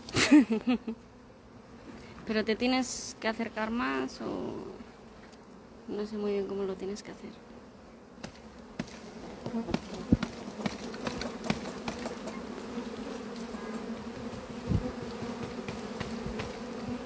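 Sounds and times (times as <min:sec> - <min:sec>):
bee swarm buzzing: 0:00.0 - 0:17.0.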